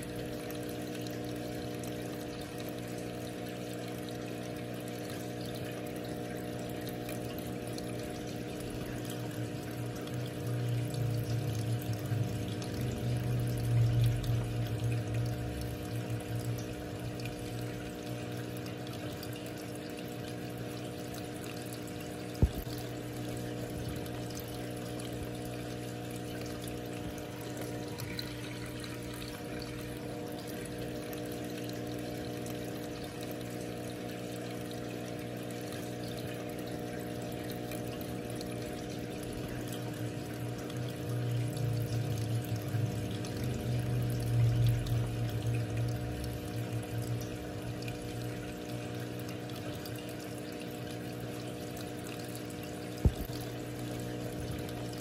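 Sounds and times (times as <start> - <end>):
filter motor hum: 0.0 - 55.0
water trickling and splashing: 0.0 - 55.0.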